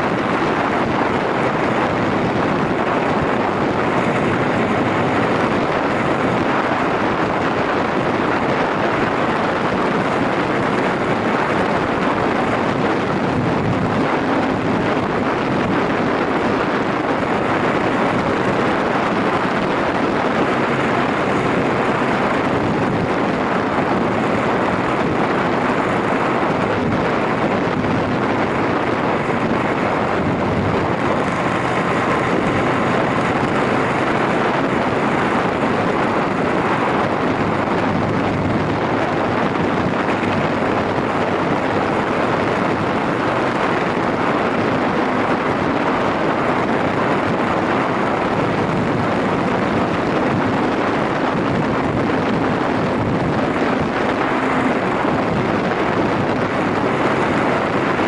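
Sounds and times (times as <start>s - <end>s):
motorcycle engine running: 0.0s - 46.7s, 47.6s - 58.0s
wind rushing over microphone: 0.0s - 58.0s.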